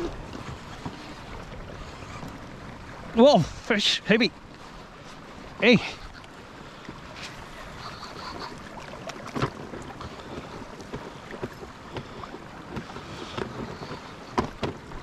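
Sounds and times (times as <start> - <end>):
water sloshing against raft: 0.0 - 15.0.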